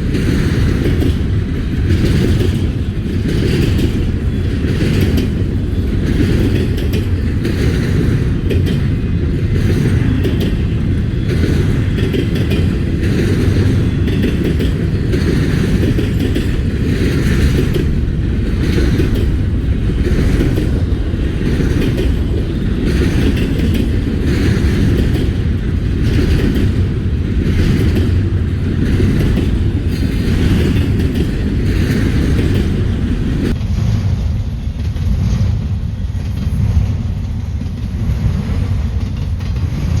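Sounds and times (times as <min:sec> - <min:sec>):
train railcars rumbling: 0:00.0 - 0:40.0
wheels clacking over rail joints: 0:00.0 - 0:40.0.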